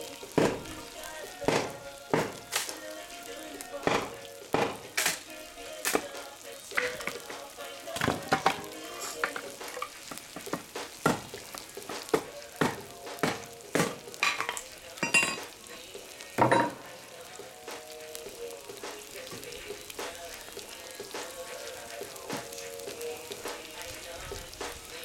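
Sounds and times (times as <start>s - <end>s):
oil popping and spitting: 0.0s - 17.0s, 17.6s - 25.0s
meat and onions sizzling in oil: 0.0s - 25.0s.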